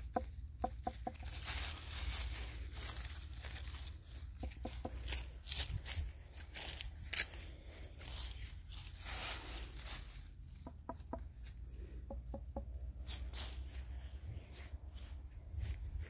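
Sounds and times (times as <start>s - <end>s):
leaves and grass rustling: 0.2s - 11.6s, 12.9s - 16.0s.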